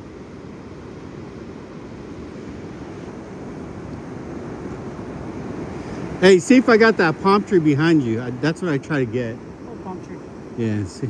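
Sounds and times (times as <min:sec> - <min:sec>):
ocean surf: 0:00.0 - 0:11.0
wind on a beach: 0:00.0 - 0:11.0.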